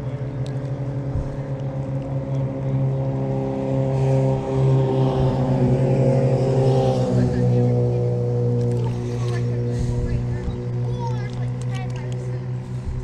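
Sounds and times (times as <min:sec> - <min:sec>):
engine-like drone: 0:00.0 - 0:13.0.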